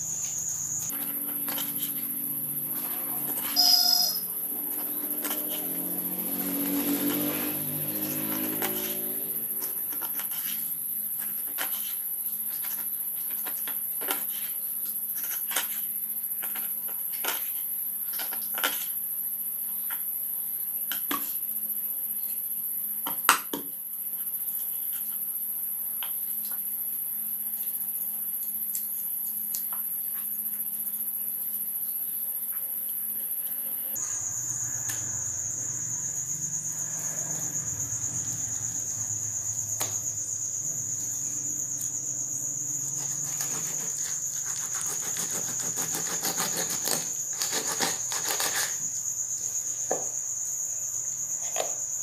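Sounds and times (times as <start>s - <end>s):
crickets chirping: 0.0s - 52.0s
low-pitched cricket: 0.0s - 52.0s.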